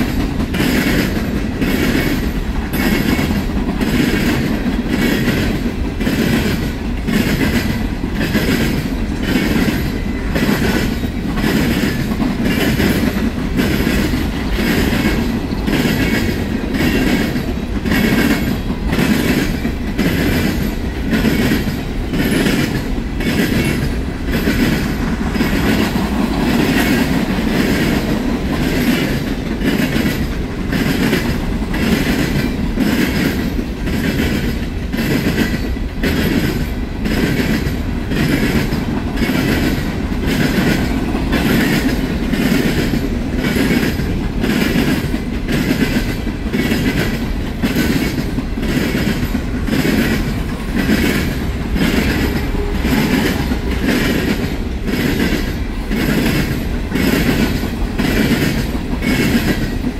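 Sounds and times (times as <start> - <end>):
train rumbling past: 0.0 - 59.9
train wheels clacking: 0.0 - 59.9.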